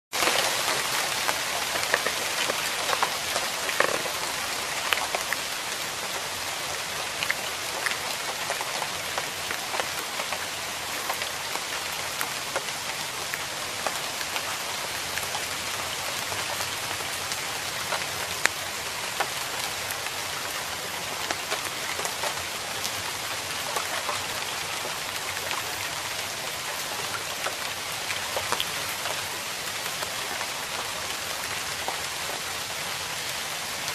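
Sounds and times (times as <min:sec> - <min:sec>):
water splashing and pattering: 0:00.2 - 0:33.9.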